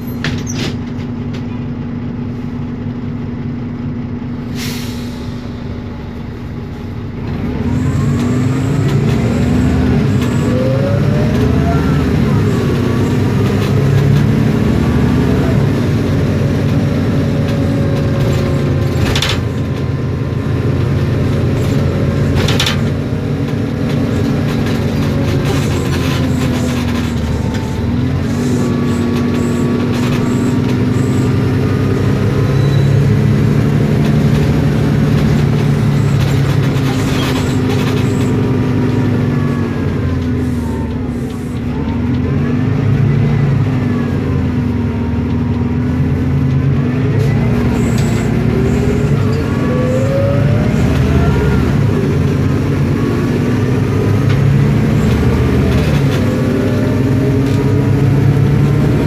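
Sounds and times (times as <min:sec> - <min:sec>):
bus diesel engine running: 0:00.0 - 0:59.0
gearbox whining: 0:07.2 - 0:59.0.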